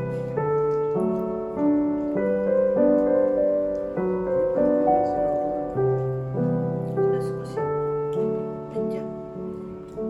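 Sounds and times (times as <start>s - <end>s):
slow piano chords: 0.0s - 10.0s.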